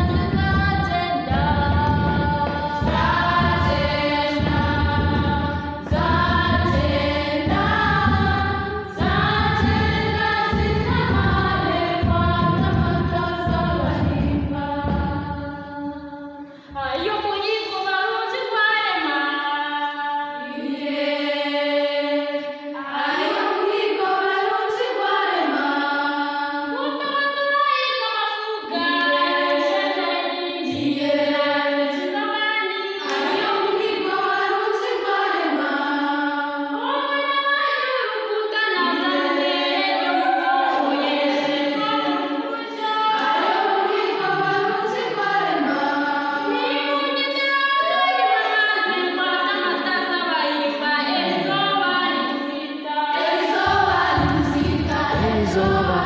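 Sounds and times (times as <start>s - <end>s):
girls singing together: 0.0s - 56.0s.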